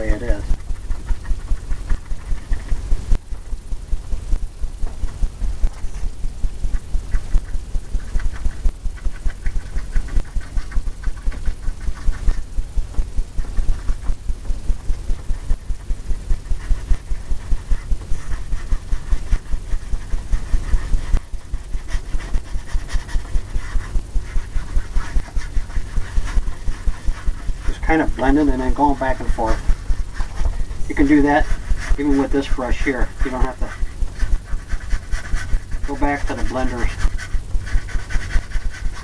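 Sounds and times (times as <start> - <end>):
paintbrush scrubbing on canvas: 0.0 - 3.2, 4.8 - 39.0.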